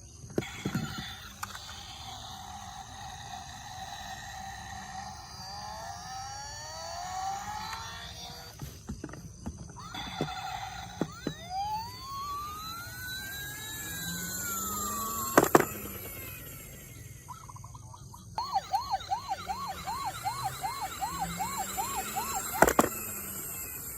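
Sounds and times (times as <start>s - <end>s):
toy siren wailing: 0.4s - 23.9s.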